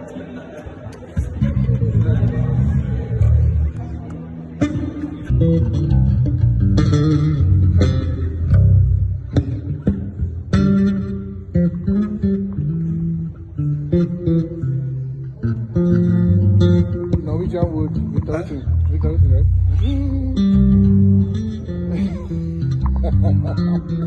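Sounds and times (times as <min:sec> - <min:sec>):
electric bass plucked notes: 0:01.2 - 0:24.0.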